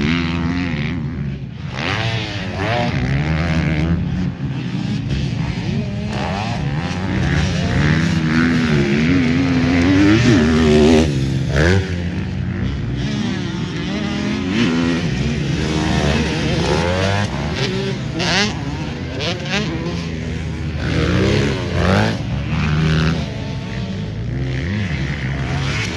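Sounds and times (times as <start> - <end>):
motocross bikes revving: 0.0 - 25.9.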